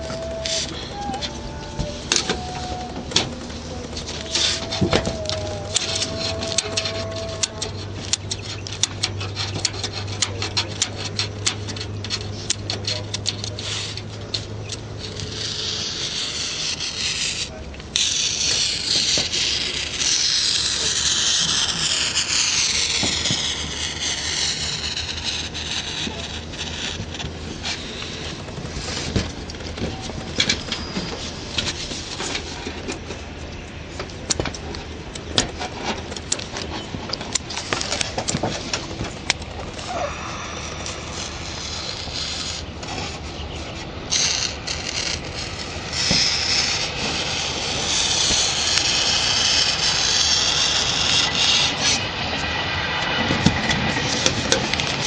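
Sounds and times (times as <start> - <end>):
high-pitched scraping rub: 0.0 - 34.5, 35.2 - 55.0
metal tool scraping metal roofing: 0.0 - 52.1.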